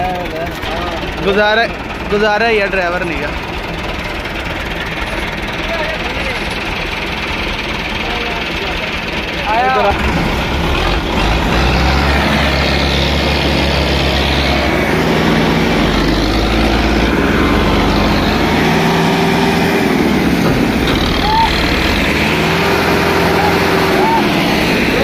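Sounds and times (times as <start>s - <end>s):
diesel tractor engine idling: 0.0s - 25.0s.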